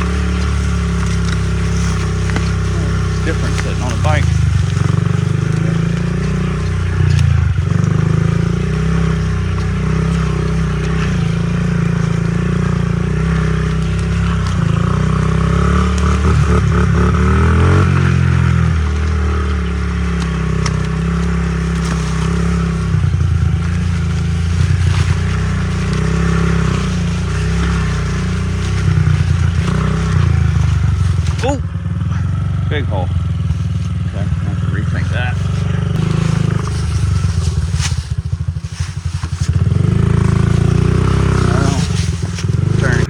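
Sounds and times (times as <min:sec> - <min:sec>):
small motorbike engine revving: 0:00.0 - 0:43.0.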